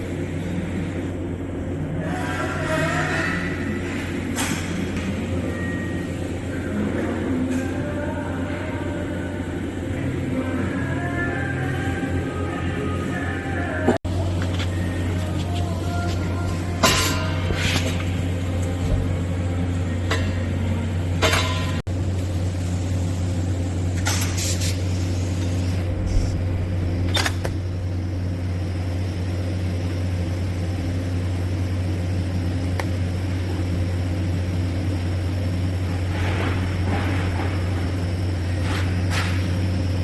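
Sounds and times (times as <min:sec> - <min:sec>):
welding hum and hiss: 0:03.6 - 0:40.0.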